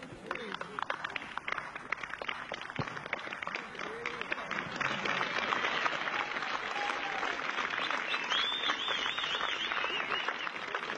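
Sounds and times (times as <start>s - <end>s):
crowd clapping: 0.0s - 10.9s.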